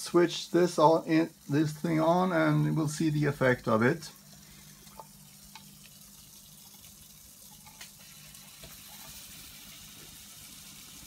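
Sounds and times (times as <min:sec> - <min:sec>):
water running into basin: 0:00.0 - 0:11.0.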